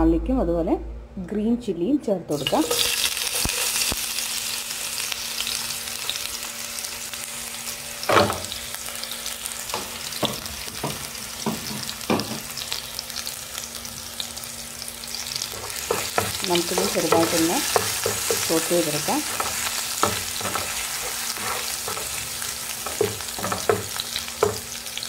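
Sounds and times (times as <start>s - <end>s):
food sizzling in hot oil: 2.4s - 25.0s.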